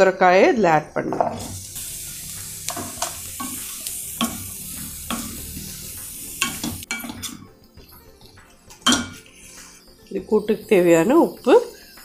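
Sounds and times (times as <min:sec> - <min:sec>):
vegetables sizzling in hot oil: 0:01.3 - 0:12.0.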